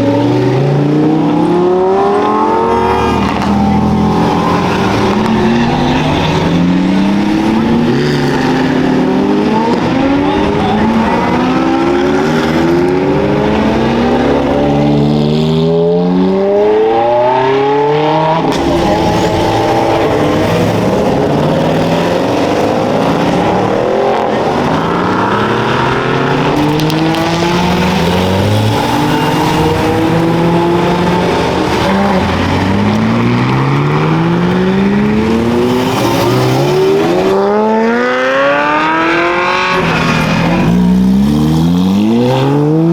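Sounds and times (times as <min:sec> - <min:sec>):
race car engines accelerating: 0:00.0 - 0:42.9.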